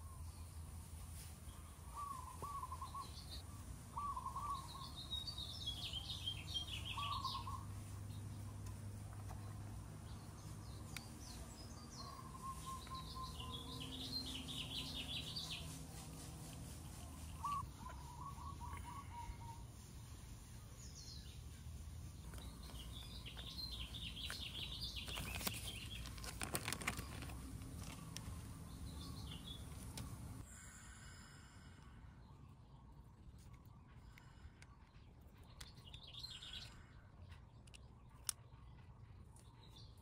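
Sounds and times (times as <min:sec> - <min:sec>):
birds chirping: 0:01.4 - 0:40.0.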